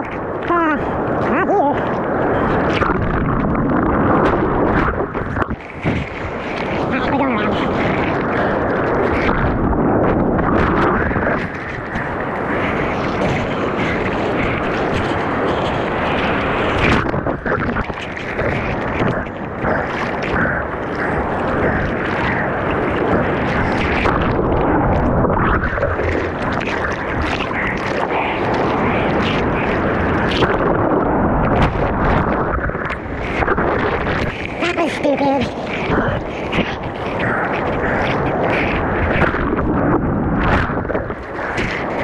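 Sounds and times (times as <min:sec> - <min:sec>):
surf rushing: 0:00.0 - 0:42.0
water splashing: 0:00.0 - 0:42.0.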